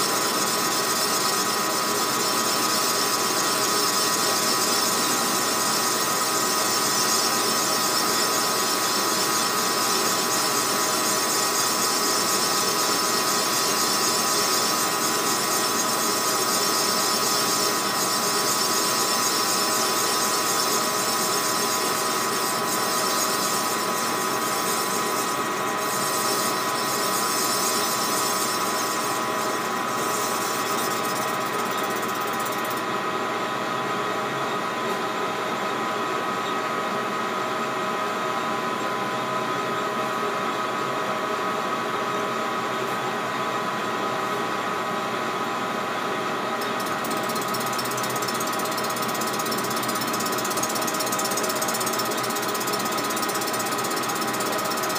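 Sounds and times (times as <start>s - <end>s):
metal lathe humming and whining: 0.0s - 37.2s, 46.5s - 54.9s.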